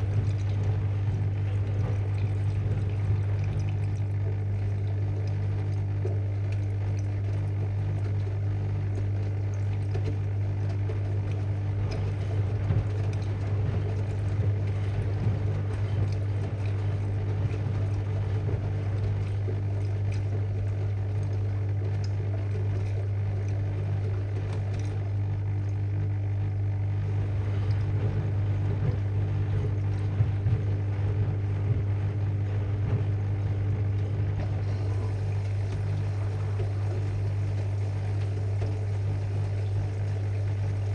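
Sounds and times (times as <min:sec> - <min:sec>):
washing machine motor hum: 0:00.0 - 0:40.9
water rushing in: 0:00.0 - 0:40.9.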